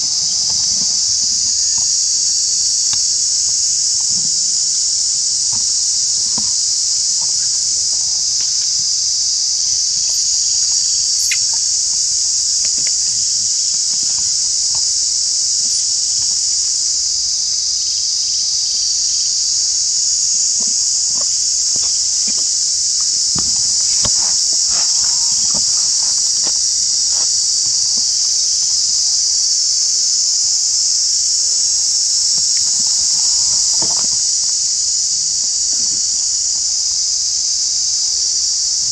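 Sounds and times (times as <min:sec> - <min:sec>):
faint ticks and rustles: 0:00.0 - 0:37.1
insect chorus buzzing: 0:00.0 - 0:38.9.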